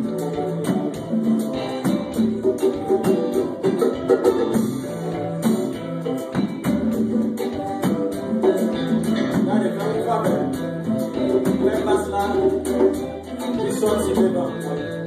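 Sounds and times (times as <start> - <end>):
bass line: 0.0 - 15.0
plucked guitar: 0.0 - 15.0
shaken percussion: 0.0 - 15.0.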